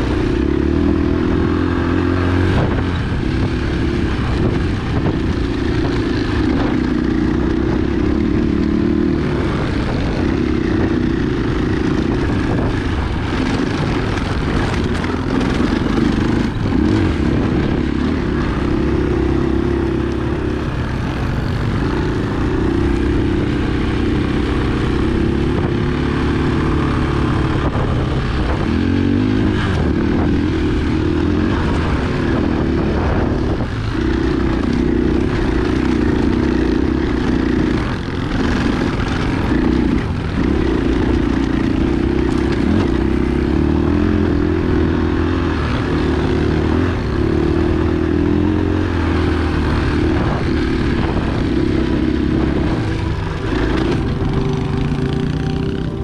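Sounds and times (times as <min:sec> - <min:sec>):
constant rushing noise: 0:00.0 - 0:56.0
dirt bike engine running: 0:00.0 - 0:56.0.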